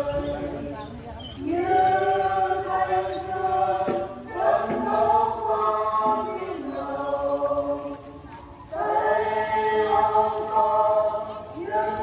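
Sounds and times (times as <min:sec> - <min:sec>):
choir singing a hymn: 0:00.0 - 0:00.8, 0:01.4 - 0:12.0.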